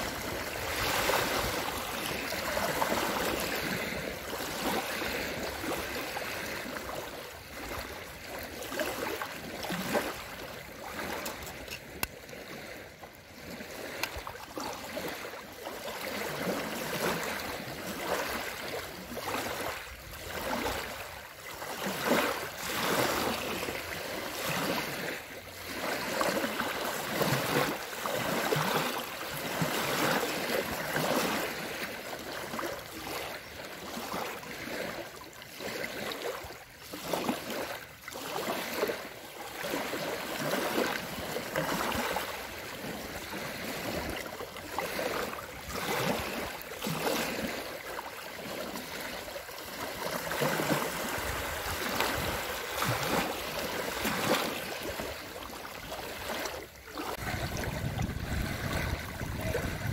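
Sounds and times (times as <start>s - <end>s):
lake waves lapping on shore: 0.0s - 59.9s.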